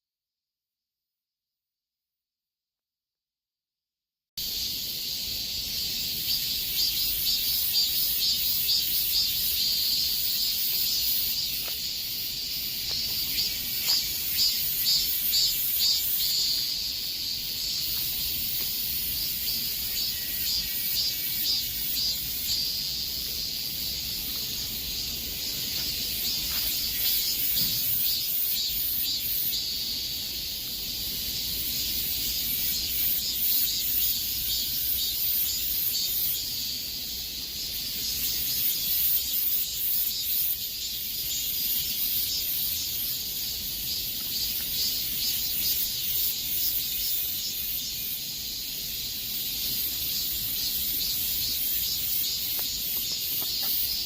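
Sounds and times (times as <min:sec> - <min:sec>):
cicadas buzzing: 0:04.4 - 0:54.0.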